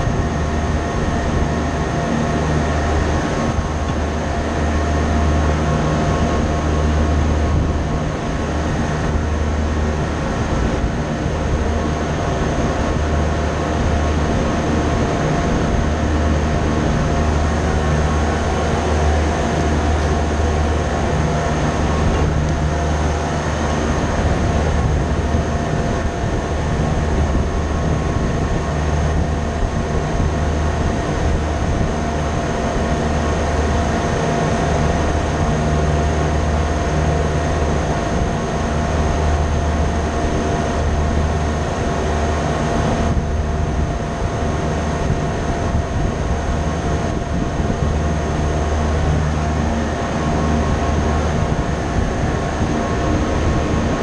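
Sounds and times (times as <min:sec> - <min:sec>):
deep machinery hum: 0:00.0 - 0:54.0.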